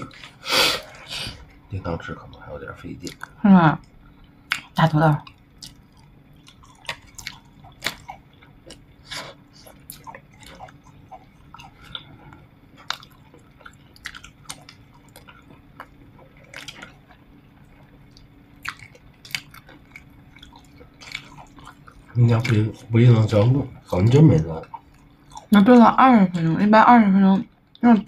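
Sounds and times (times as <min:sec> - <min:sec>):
faint steady hum: 0:00.0 - 0:28.0
chewing and mouth smacks: 0:03.0 - 0:25.6.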